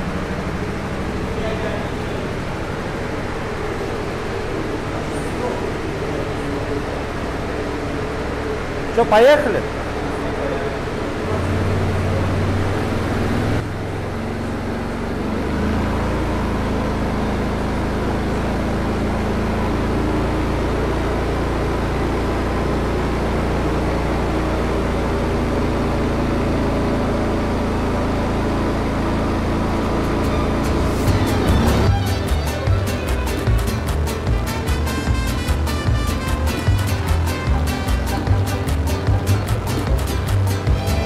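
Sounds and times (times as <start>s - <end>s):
atv engine running under load: 0.0s - 41.0s.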